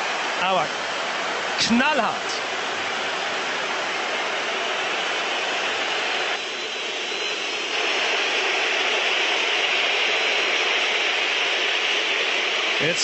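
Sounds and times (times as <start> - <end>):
stadium crowd cheering: 0.0 - 13.0.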